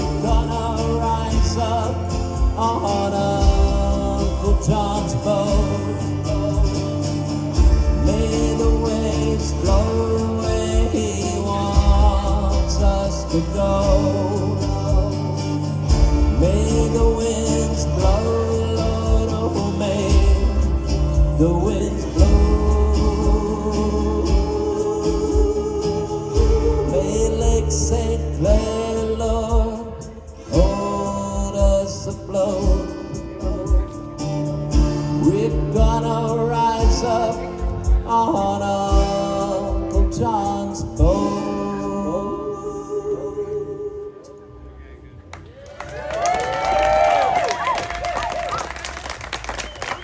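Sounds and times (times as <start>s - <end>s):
live country band playing: 0.0s - 44.7s.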